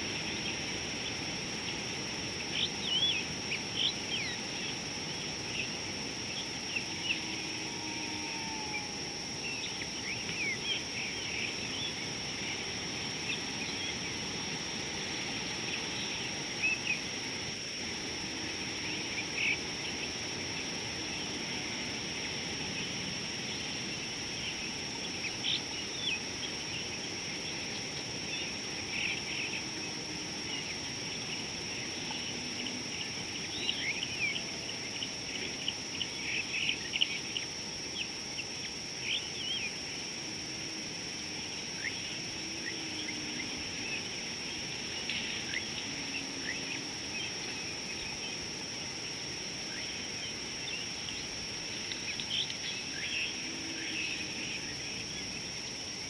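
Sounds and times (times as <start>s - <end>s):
steady high-pitched whine: 0.0s - 56.0s.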